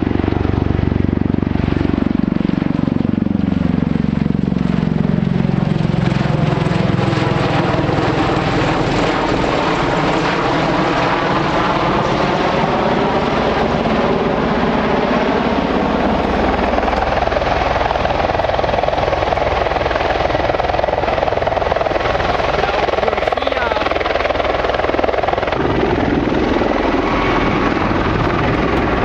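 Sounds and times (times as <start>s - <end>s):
aircraft rotors loud drone: 0.0s - 29.0s.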